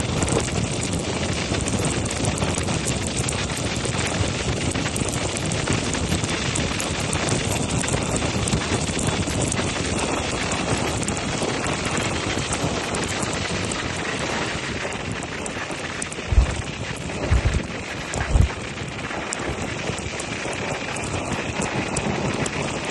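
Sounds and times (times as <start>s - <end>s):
low wind buffet: 0.0s - 22.9s
wind rushing over microphone: 0.0s - 22.9s.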